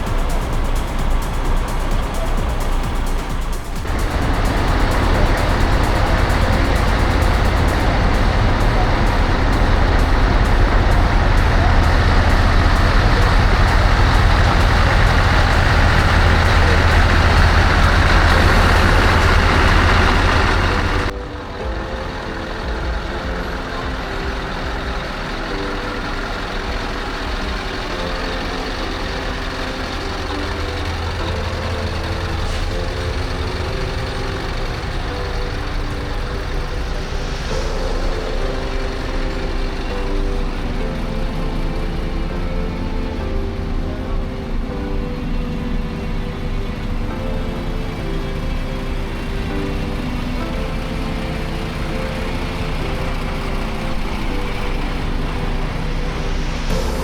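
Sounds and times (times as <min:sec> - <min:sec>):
background music: 0:00.0 - 0:57.0
truck engine rumbling: 0:00.0 - 0:57.0.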